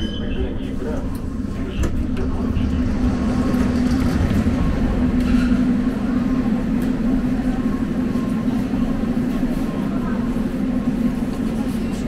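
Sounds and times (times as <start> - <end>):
murmur of voices: 0.0 - 12.0
train humming at platform: 0.0 - 12.0.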